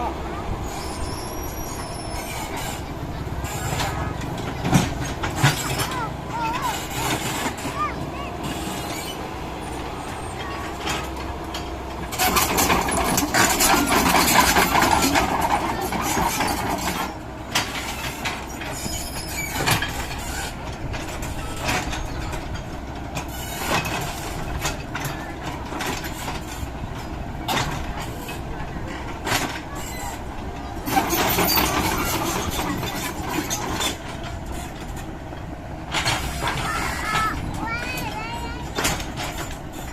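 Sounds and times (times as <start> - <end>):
excavator engine hum: 0.0 - 39.9.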